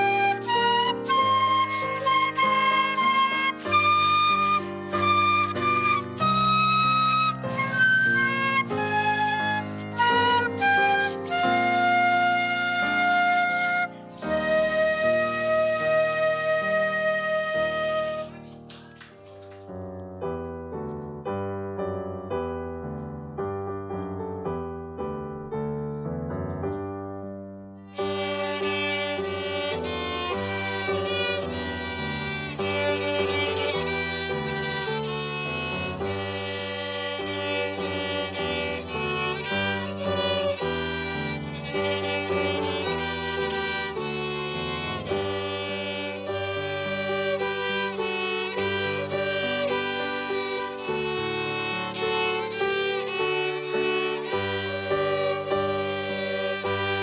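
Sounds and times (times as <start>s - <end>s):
orchestral strings: 0.0s - 18.7s, 27.8s - 57.0s
piano notes: 0.0s - 18.7s, 19.3s - 57.0s.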